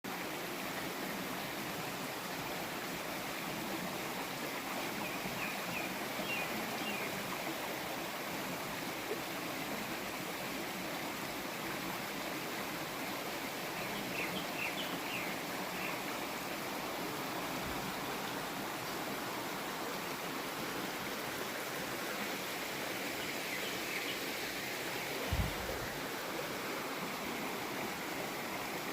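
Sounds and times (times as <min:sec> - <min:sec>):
stream flowing over rocks: 0:00.1 - 0:28.9.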